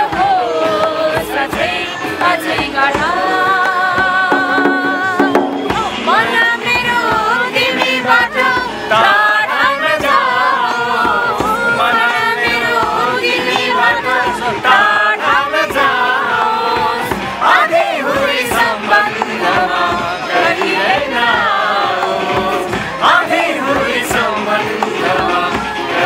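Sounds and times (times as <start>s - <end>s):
group singing: 0.0s - 26.0s
hand drum beat: 0.1s - 9.2s, 10.0s - 26.0s.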